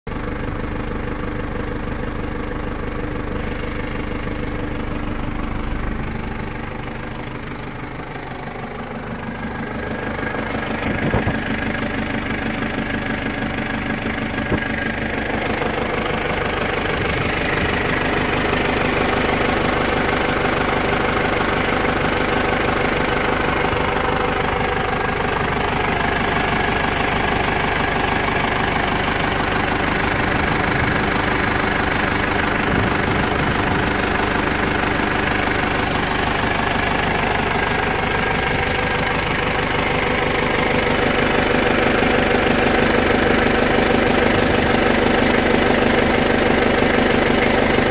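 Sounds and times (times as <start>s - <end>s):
engine idling at exhaust: 0.1s - 47.9s.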